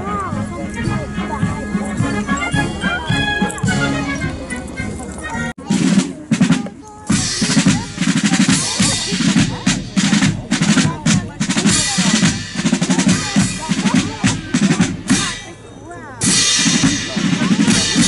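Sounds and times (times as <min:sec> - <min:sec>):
marching drums beating: 0:00.3 - 0:05.0, 0:05.6 - 0:15.6, 0:16.2 - 0:18.0.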